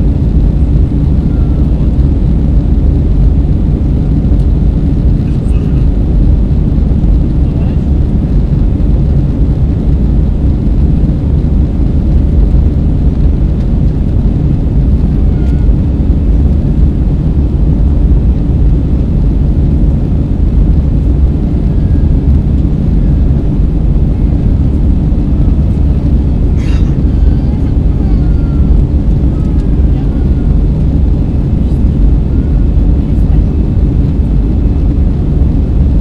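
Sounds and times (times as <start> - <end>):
airplane cabin engine rumble: 0.0 - 36.0.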